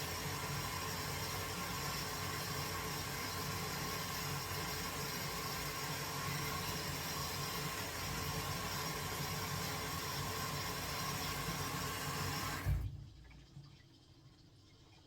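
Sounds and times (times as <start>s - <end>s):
washing machine running: 0.0s - 13.9s.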